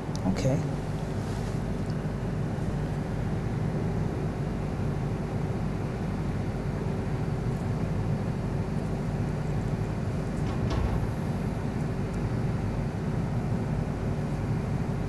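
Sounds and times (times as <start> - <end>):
low background rumble with hum: 0.0 - 15.0.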